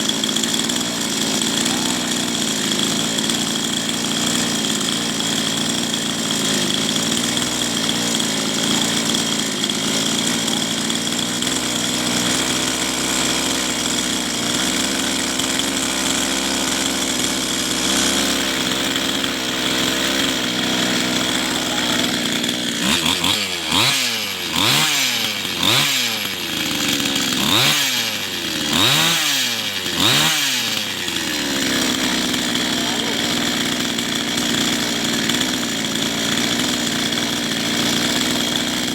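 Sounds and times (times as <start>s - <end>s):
small petrol engine idling: 0.0s - 38.9s.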